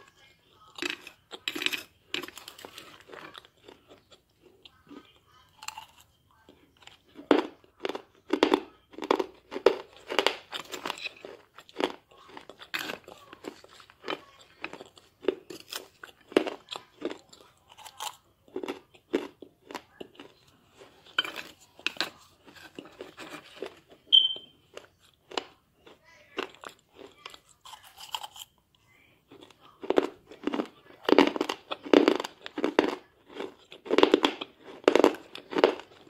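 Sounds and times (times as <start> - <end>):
chewing crunchy clay: 0.0 - 28.6, 29.2 - 36.0.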